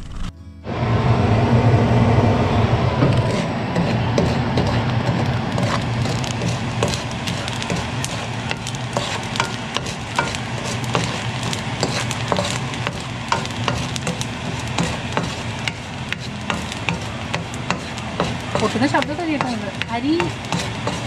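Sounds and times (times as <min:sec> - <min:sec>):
low hum: 0:00.0 - 0:20.5
grains popping in heat: 0:03.0 - 0:21.0
wooden spatula scraping in wok: 0:03.0 - 0:21.0.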